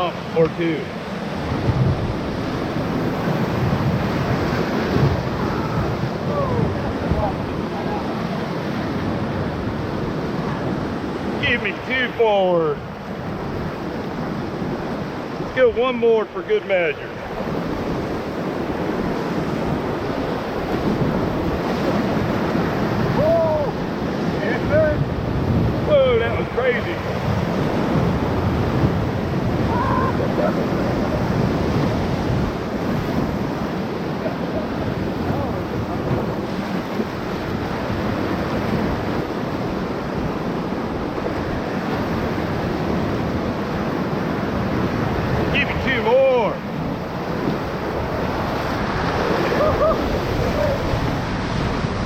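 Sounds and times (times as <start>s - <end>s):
whitewater rapids rushing: 0.0s - 52.0s
wind noise on microphone: 1.2s - 11.5s, 17.2s - 46.0s, 46.6s - 52.0s.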